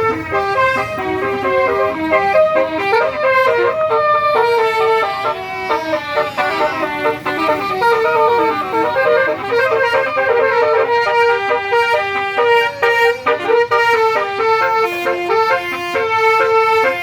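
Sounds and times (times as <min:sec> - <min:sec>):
bus horn playing melody: 0:00.0 - 0:17.0.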